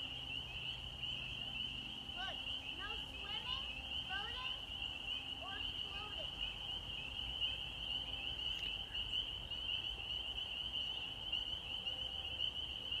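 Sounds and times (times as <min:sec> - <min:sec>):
frogs trilling: 0:00.0 - 0:13.0.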